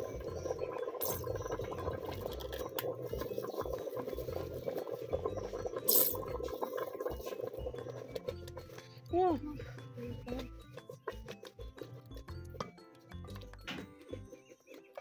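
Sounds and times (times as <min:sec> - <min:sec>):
pot boiling: 0:00.0 - 0:14.7.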